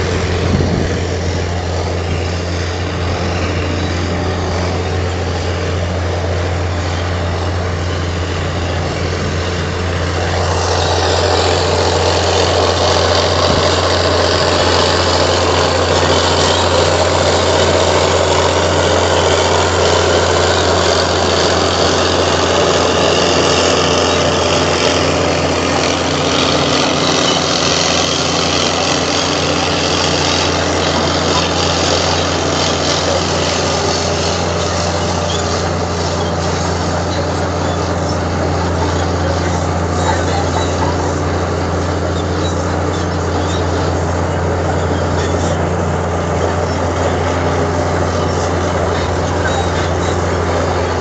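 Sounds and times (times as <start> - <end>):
heavy diesel machine running: 0.0 - 51.0.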